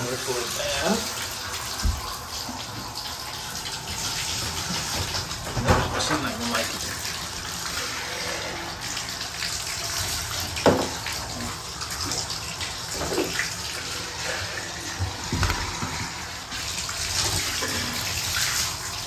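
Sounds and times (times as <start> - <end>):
water splashing in a bathtub: 0.0 - 19.0.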